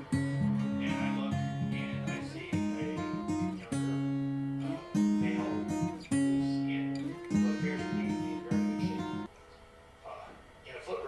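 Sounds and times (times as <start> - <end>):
strummed acoustic guitar: 0.0 - 9.3.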